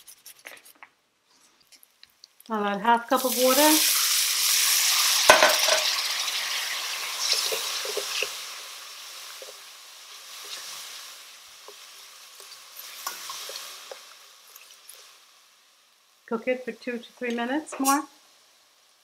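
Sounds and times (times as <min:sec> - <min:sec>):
curry sizzling in pot: 0:01.7 - 0:19.0.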